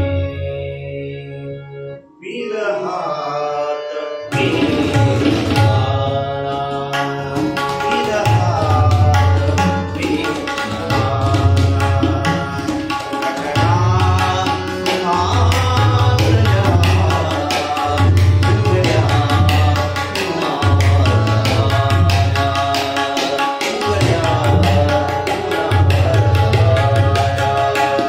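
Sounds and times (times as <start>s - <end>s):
harmonium chords: 0.0s - 28.0s
man singing: 0.2s - 28.0s
tabla playing fast rhythm: 4.3s - 28.0s.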